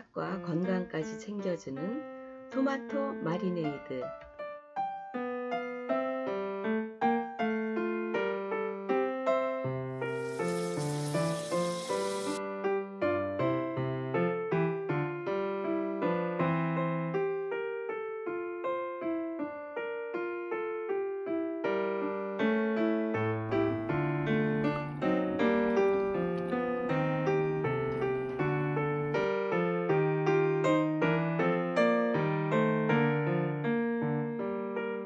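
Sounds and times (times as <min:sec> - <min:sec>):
piano melody: 0:01.7 - 0:35.0.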